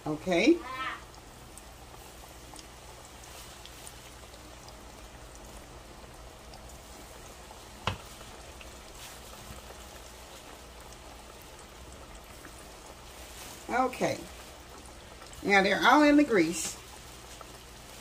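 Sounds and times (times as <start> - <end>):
fish deep-frying in oil: 0.0 - 18.0.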